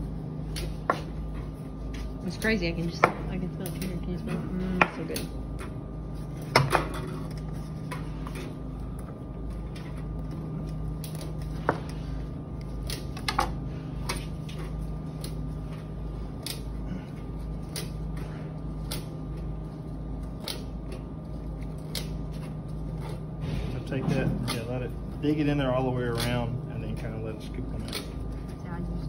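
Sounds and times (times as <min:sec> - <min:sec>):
kitchen hum: 0:00.0 - 0:29.0.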